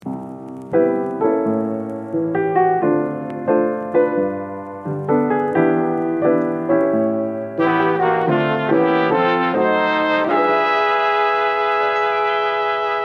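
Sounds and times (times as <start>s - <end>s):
piano playing chords: 0.0s - 13.0s.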